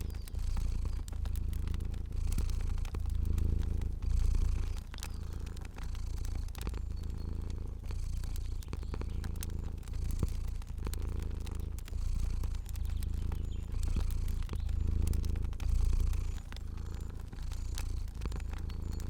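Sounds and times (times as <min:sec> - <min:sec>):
cat purring: 0:00.0 - 0:19.0
fire crackling and popping: 0:00.0 - 0:19.0.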